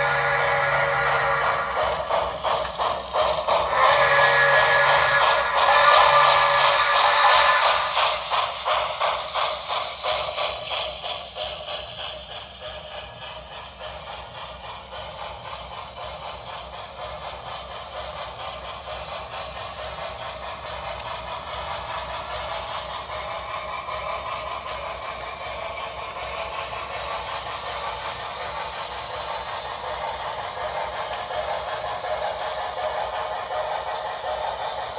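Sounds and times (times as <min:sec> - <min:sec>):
model train steam chuffing: 0:00.0 - 0:34.9.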